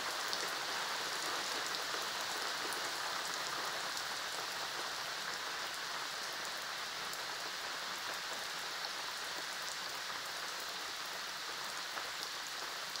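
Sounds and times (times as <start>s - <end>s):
rain on concrete: 0.0s - 13.0s.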